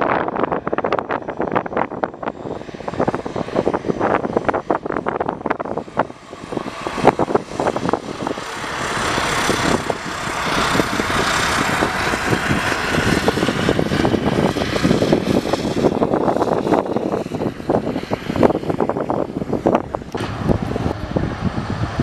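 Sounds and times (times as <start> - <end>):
turboprop engines at high power: 0.0 - 22.0
wind buffeting microphone: 0.0 - 22.0.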